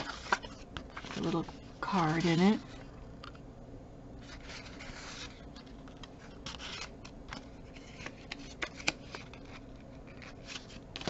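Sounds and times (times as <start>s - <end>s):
paper rustling and sliding: 0.0s - 2.7s, 4.2s - 11.0s.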